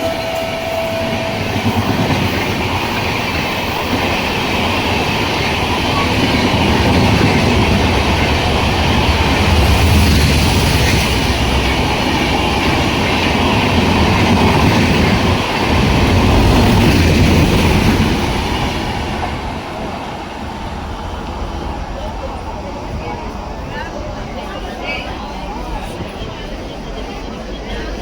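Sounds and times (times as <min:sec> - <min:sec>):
passenger train passing at speed: 0:00.0 - 0:28.0.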